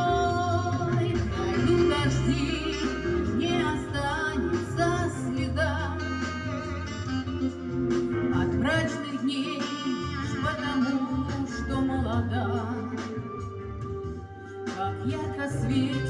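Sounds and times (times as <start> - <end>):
pop backing track with bass line: 0.0 - 16.0.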